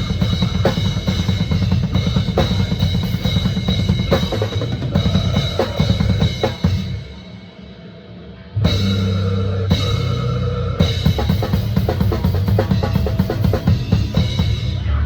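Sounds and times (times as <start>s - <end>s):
drum kit playing fast: 0.0s - 7.3s, 8.6s - 14.9s
sustained low instruments: 0.0s - 15.0s.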